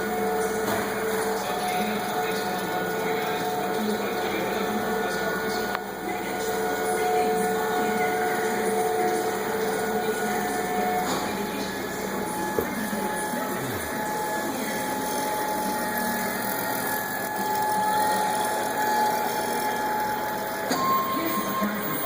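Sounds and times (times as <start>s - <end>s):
motors whining: 0.0s - 22.0s.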